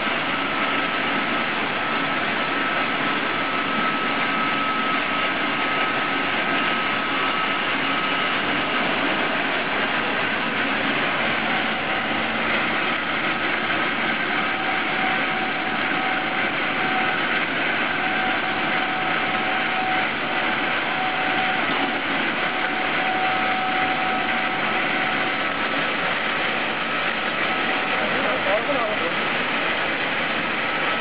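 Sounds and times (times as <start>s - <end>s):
faint steady whine: 0.0s - 31.0s
feed grinder running: 0.0s - 31.0s.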